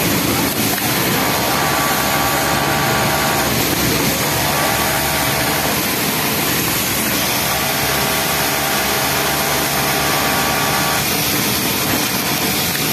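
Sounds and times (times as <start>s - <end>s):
sewing machine whirring: 0.0s - 12.9s.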